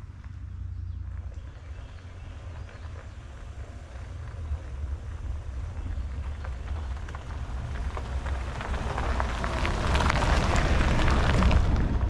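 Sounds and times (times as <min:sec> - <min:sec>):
truck engine rumble: 0:00.0 - 0:12.0
tyres crunching over gravel: 0:00.0 - 0:12.0.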